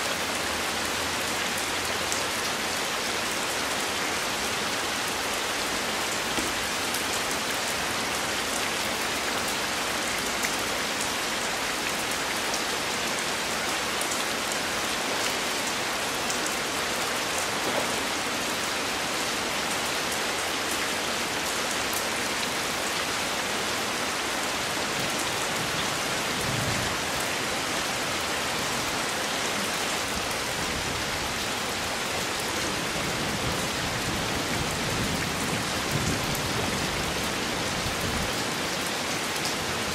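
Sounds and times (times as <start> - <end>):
heavy rain on pool and rock: 0.0 - 39.9.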